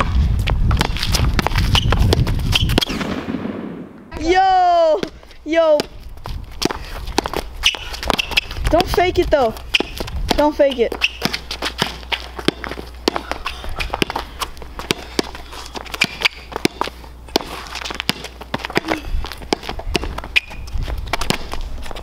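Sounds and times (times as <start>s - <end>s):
sneakers scuffing and running: 0.0s - 3.0s, 4.8s - 22.0s
basketball bouncing on asphalt: 0.0s - 3.8s, 4.9s - 22.0s.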